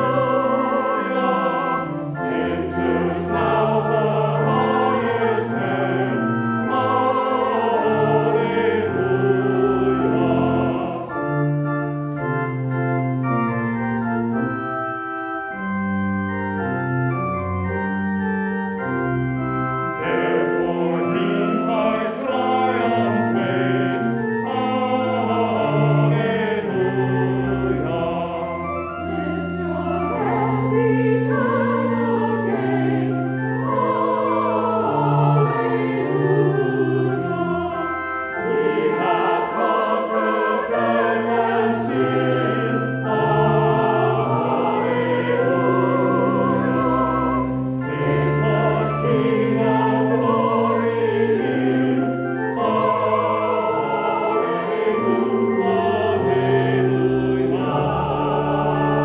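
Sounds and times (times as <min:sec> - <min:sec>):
choir singing a hymn: 0:00.0 - 0:59.0
organ playing: 0:00.0 - 0:59.0.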